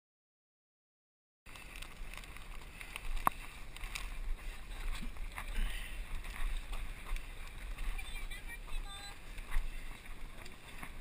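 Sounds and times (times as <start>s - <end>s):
scuffing in dirt: 1.5s - 11.0s.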